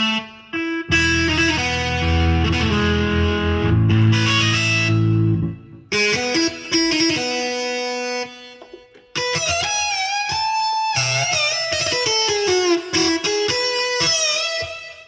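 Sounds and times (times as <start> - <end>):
keyboard electric guitar notes: 0.0 - 15.0.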